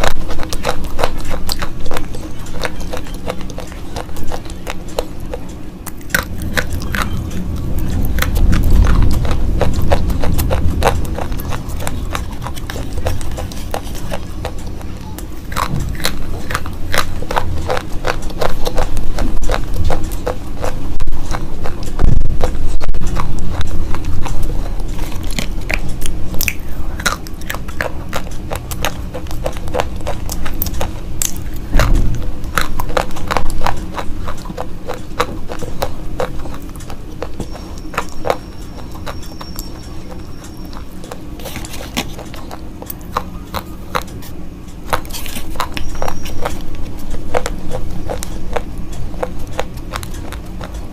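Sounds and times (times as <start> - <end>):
slate pencils crunching: 0.0 - 50.9.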